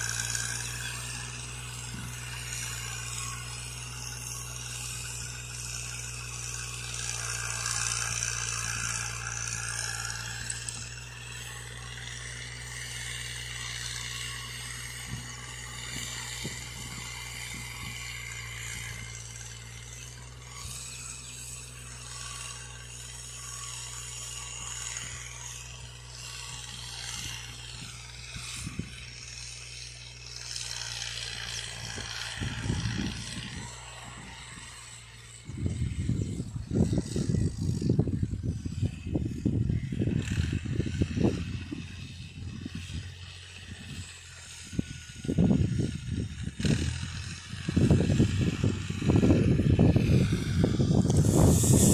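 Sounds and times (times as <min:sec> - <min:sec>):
low bumps: 0:00.0 - 0:51.9
tractor engine running under load: 0:00.0 - 0:51.9.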